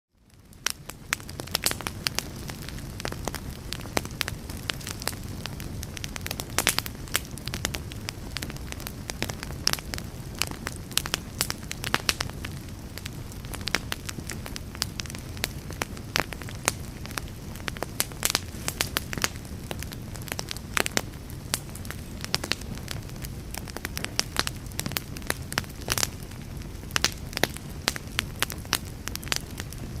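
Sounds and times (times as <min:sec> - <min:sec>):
wood fire crackling and popping: 0:00.2 - 0:30.0.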